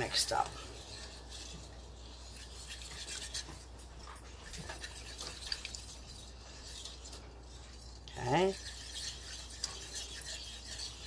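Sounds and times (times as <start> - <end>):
whisk stirring wet sauce: 0.0 - 11.0
wire whisk scraping pan: 0.0 - 11.0.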